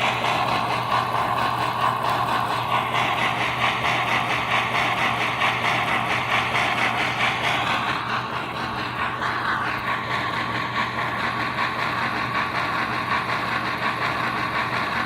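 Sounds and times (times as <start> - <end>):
model steam locomotive running: 0.0 - 15.0.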